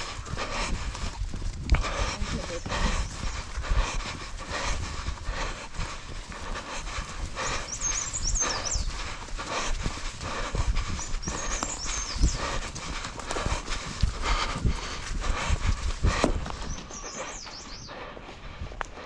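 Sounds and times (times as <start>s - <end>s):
heavy breathing: 0.0s - 19.0s
running footsteps on a path: 0.0s - 19.0s.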